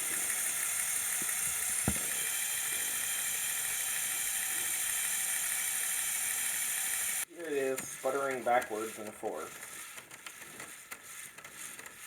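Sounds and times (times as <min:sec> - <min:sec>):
toy motors and gearbox whirring: 0:00.0 - 0:12.0.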